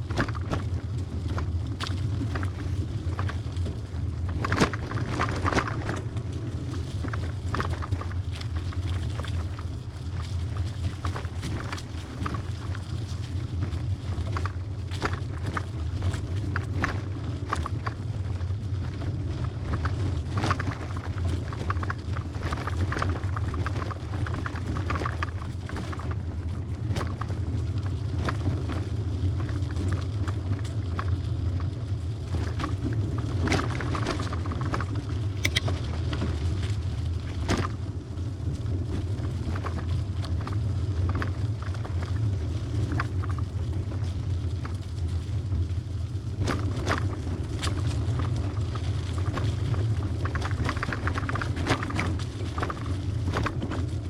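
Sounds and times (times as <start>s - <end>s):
bicycle rattling and clicking: 0.0s - 54.0s
wind and tyres rumbling: 0.0s - 54.0s.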